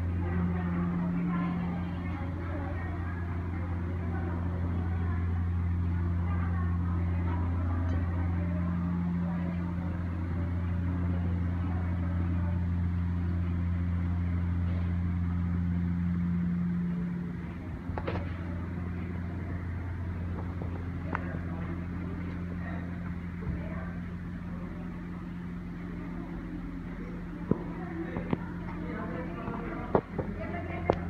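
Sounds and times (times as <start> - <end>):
low hum: 0.0 - 31.0
murmur of many voices: 0.0 - 31.0.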